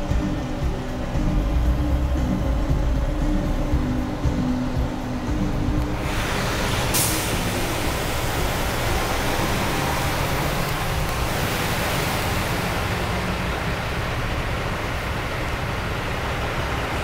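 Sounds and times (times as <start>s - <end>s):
tyres on wet road: 0.0s - 17.0s
water spraying from vehicles: 0.0s - 17.0s.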